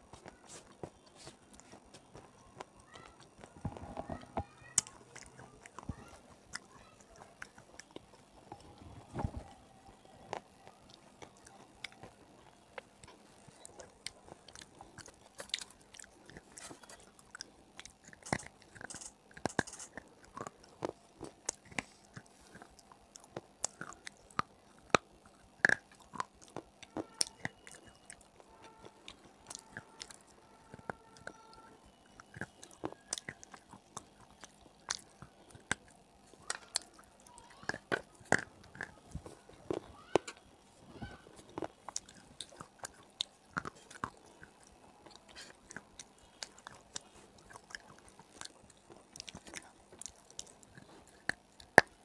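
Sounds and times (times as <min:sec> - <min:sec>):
crunchy biting and chewing: 0:00.0 - 0:52.0.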